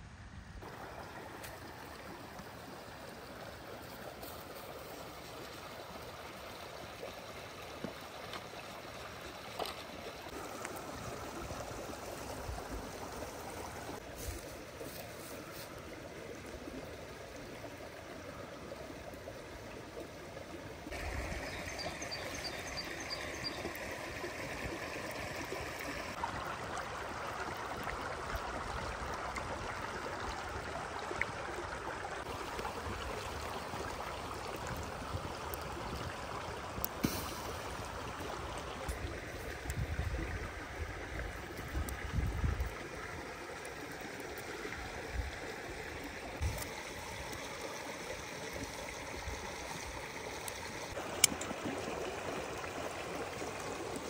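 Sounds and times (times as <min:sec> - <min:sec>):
water flowing: 0:00.6 - 0:54.0.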